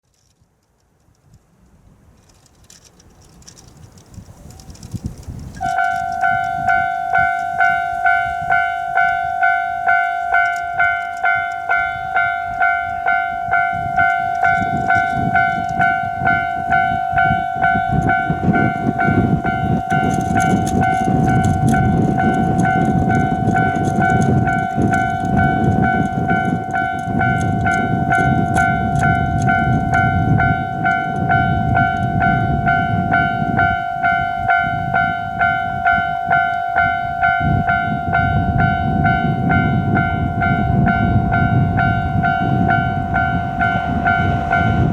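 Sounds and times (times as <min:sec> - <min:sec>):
train rumble: 0:01.3 - 0:44.9
level-crossing alarm ringing: 0:05.5 - 0:44.9.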